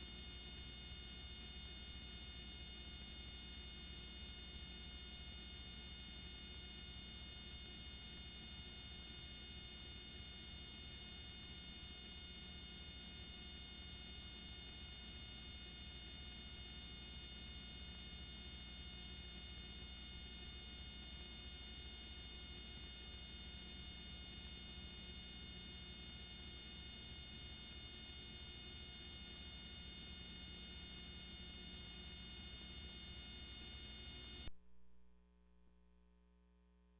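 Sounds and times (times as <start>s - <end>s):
electrical buzz and hum: 0.0s - 34.6s.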